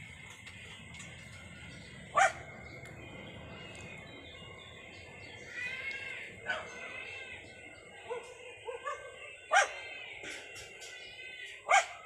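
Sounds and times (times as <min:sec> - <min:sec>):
faint outdoor background noise: 0:00.0 - 0:12.0
animal calls: 0:01.7 - 0:12.0.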